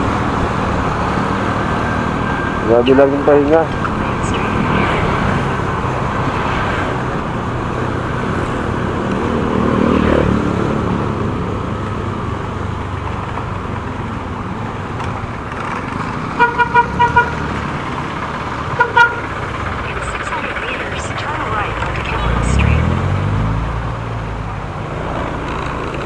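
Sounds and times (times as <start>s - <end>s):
motor scooter rumbling: 0.0s - 26.0s.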